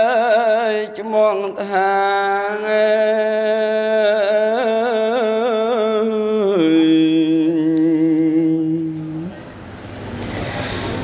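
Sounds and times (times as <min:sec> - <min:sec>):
man chanting: 0:00.0 - 0:09.5.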